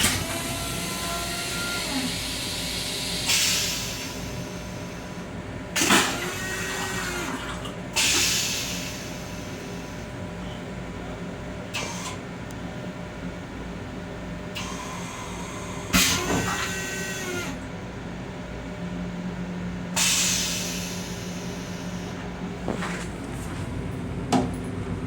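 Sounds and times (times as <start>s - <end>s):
railcar running hum: 0.0s - 25.0s.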